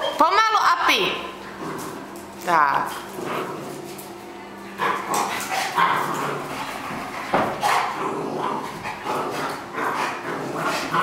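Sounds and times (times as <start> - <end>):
dogs barking at play: 0.0 - 11.0.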